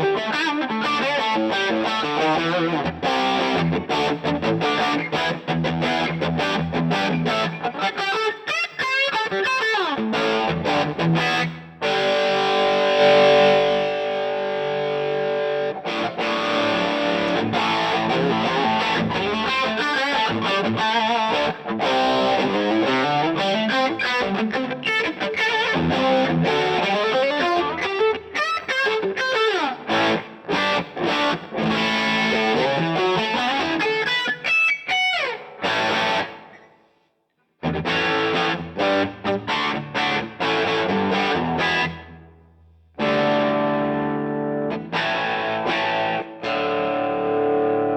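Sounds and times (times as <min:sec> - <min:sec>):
distorted electric guitar: 0:00.0 - 0:36.9, 0:37.6 - 0:47.9.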